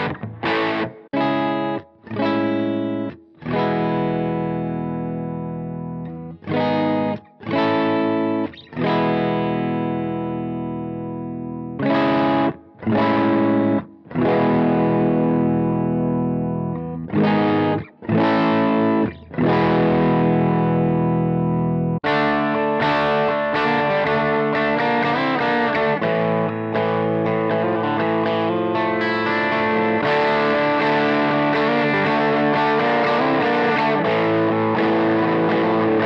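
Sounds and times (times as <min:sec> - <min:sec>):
overdriven electric guitar chords: 0:00.0 - 0:36.0.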